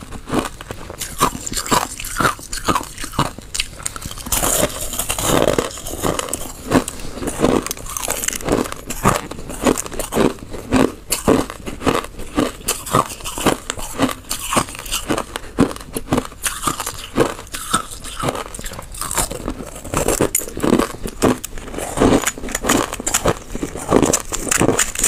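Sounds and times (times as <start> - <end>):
ice crunching being chewed: 0.0 - 25.0.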